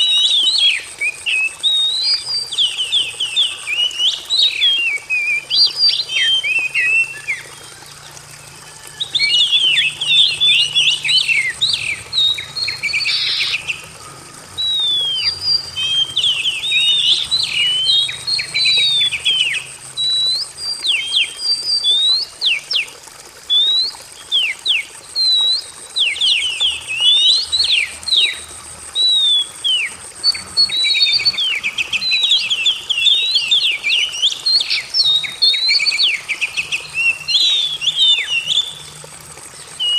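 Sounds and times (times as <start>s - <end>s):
bird singing whistled notes: 0.0s - 13.9s, 14.5s - 38.9s.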